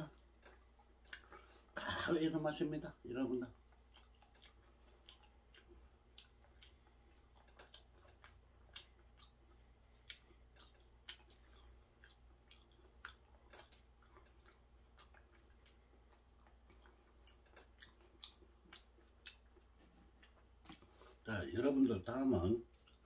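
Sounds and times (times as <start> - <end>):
faint wet chewing: 0.0 - 23.0.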